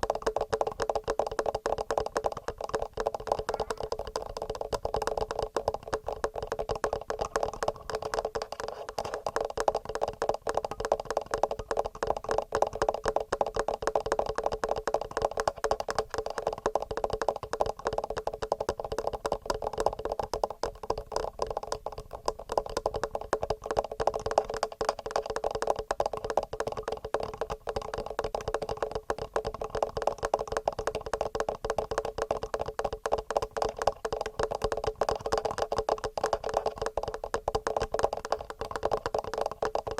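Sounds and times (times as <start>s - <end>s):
fingernails tapping on microphones: 0.0s - 39.9s.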